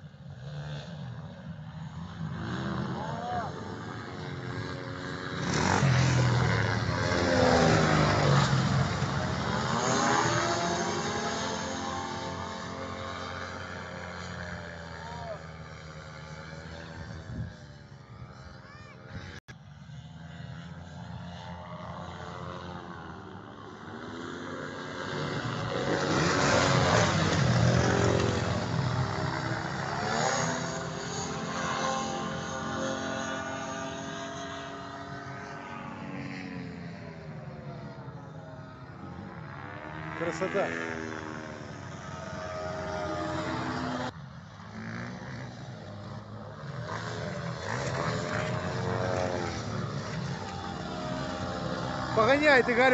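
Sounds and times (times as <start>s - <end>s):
small engines passing by: 0.0s - 52.9s.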